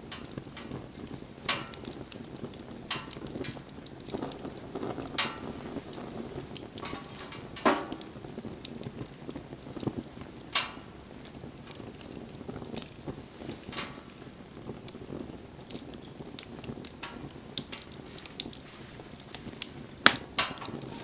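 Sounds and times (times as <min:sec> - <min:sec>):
loud sharp fire pops: 0:00.0 - 0:18.6, 0:19.3 - 0:21.0
bonfire hissing and crackling: 0:00.0 - 0:21.0.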